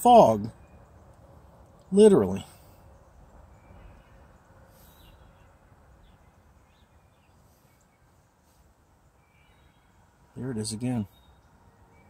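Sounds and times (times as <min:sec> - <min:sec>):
soft bird chirps: 0:00.0 - 0:12.0.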